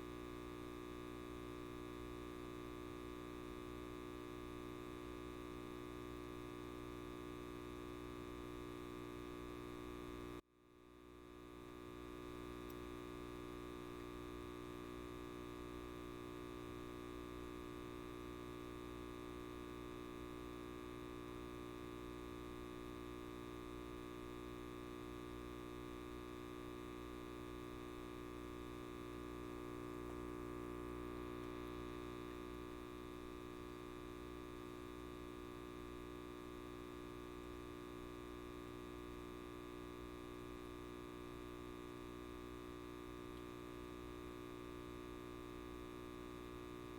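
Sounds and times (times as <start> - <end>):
light bulb electrical hum: 0.0 - 46.9.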